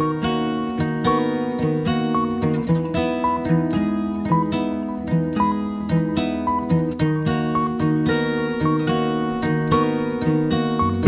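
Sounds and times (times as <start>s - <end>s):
acoustic guitar arpeggio: 0.0s - 11.0s.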